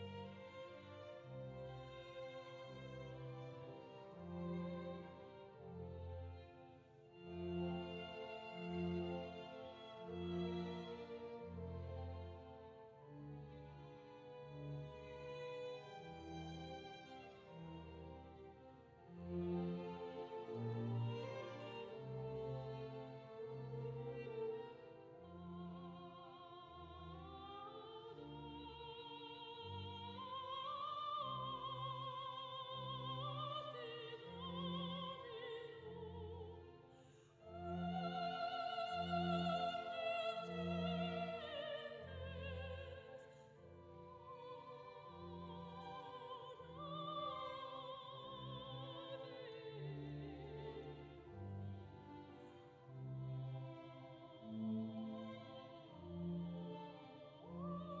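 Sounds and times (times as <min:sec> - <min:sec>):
operatic classical melody: 0:00.0 - 0:58.0.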